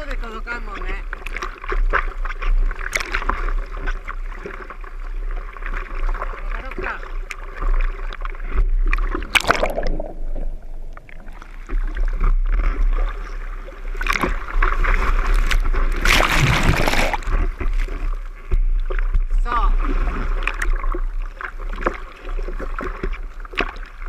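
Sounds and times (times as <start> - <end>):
rush of water: 0.0 - 24.0
sea water sloshing and splashing: 0.0 - 24.0.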